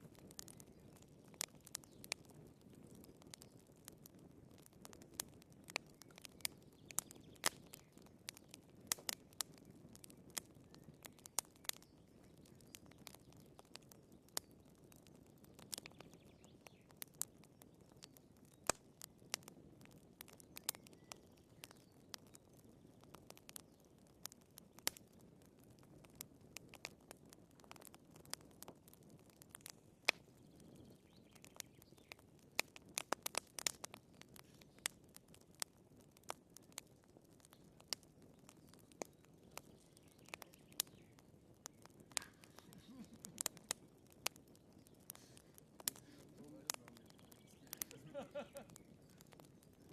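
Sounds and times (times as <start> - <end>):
logs popping and snapping: 0.0 - 49.9
soft hiss of flames: 0.0 - 49.9.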